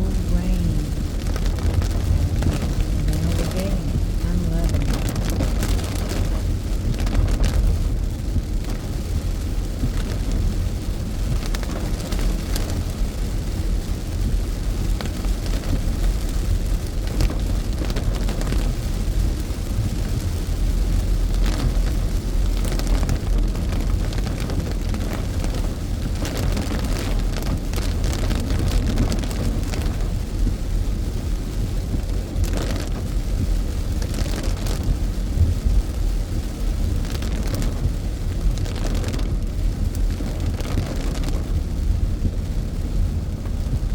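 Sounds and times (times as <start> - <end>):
car rumbling on wet road: 0.0 - 43.9
rain hitting car roof: 0.0 - 43.9.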